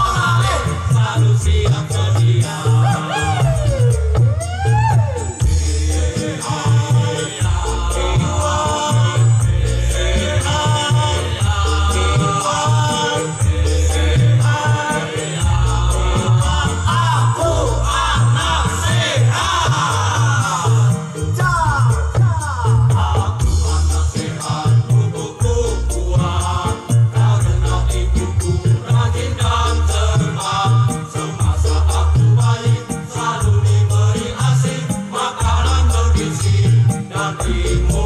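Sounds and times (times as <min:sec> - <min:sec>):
backing track with pulsing bass: 0:00.0 - 0:38.0
men's choir singing: 0:00.0 - 0:38.0
ticking percussion: 0:00.0 - 0:38.0.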